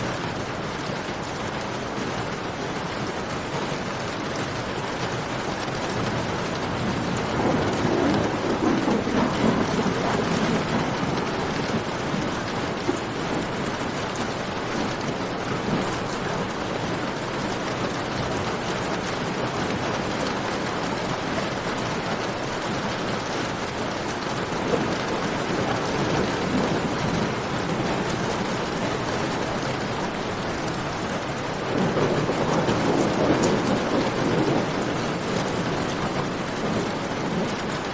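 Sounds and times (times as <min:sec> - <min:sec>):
rain falling: 0:00.0 - 0:37.9.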